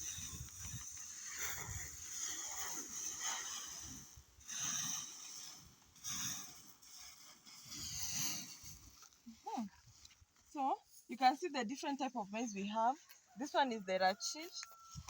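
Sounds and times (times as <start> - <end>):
dry grain rustling and pattering: 0.0 - 15.0.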